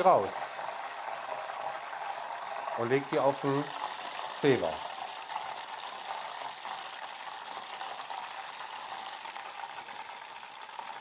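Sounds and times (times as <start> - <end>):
hot oil sizzling and bubbling: 0.0 - 11.0.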